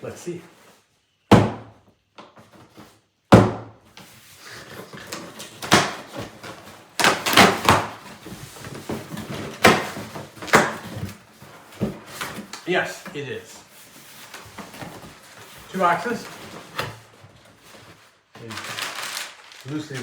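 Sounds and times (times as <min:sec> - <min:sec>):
cardboard scraping and rustling: 0:03.9 - 0:20.0.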